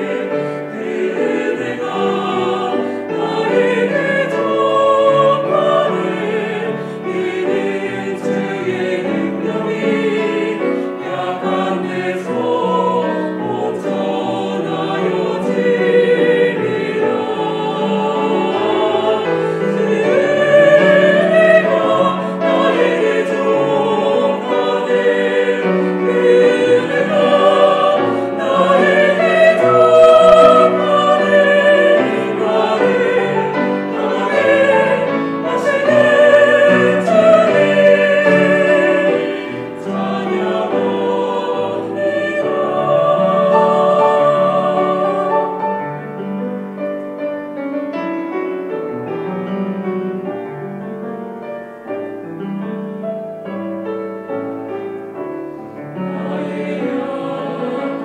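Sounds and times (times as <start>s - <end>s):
church choir singing: 0.0s - 58.0s
grand piano: 0.0s - 58.0s.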